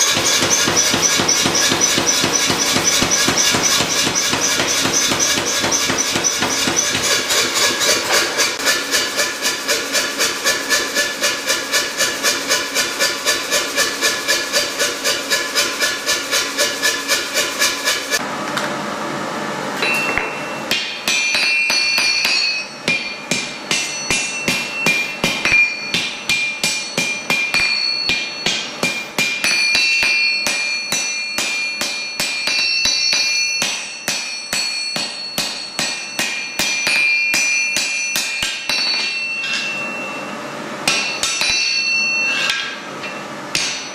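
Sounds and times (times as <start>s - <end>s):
hammer striking anvil: 0.0s - 18.2s, 19.8s - 43.9s.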